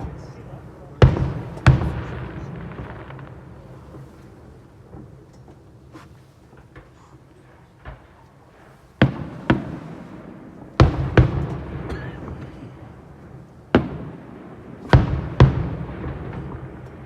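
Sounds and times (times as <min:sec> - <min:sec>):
fireworks shells bursting: 0:01.0 - 0:17.0.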